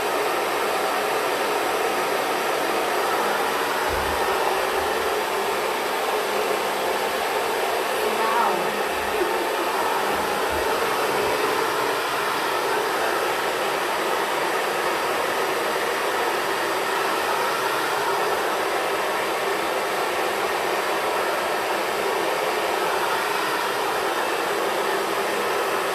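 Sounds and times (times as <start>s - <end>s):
hair dryer blowing: 0.0s - 25.9s.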